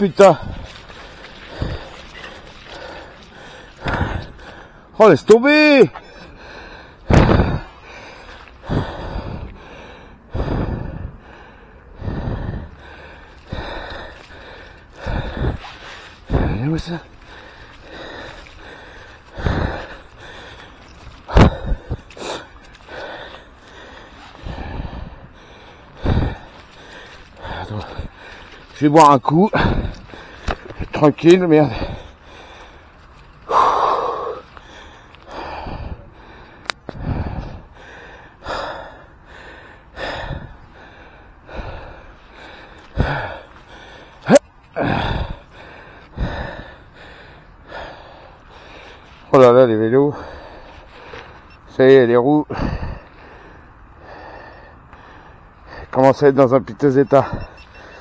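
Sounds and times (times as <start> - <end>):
person breathing hard: 0.4 - 4.9, 6.0 - 28.7, 31.7 - 32.9, 33.5 - 49.3, 52.5 - 56.0.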